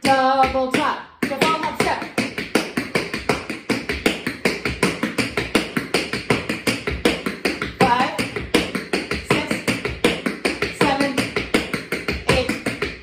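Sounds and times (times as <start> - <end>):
tap shoes on hard floor: 0.0 - 13.0.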